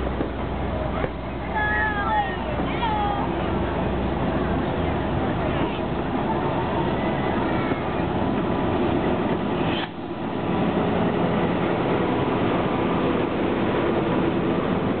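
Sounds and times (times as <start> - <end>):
locomotive engine running: 0.0 - 15.0
train wheels rumbling on rails: 0.0 - 15.0.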